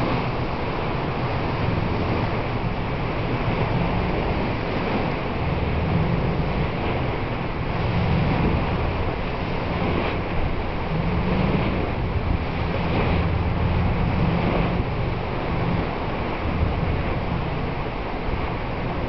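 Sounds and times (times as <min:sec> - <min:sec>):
low uneven rumble: 0:00.0 - 0:19.0
wind buffeting microphone: 0:00.0 - 0:19.0.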